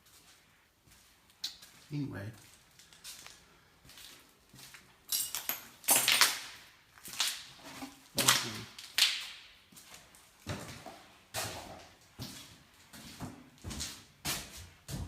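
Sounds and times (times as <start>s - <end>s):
footsteps crunching on gritty floor: 0.0s - 5.2s, 5.9s - 15.0s.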